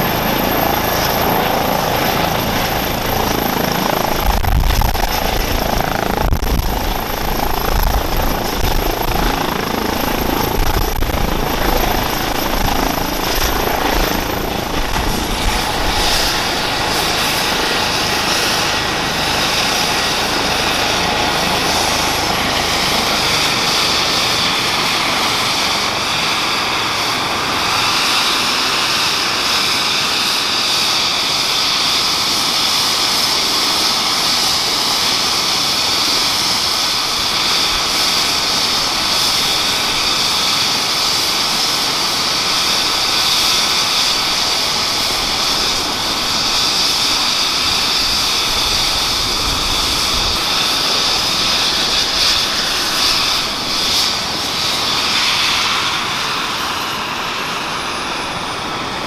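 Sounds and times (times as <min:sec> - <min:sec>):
helicopter rotor rush: 0:00.0 - 0:59.0
helicopter turbine whine: 0:00.0 - 0:59.0.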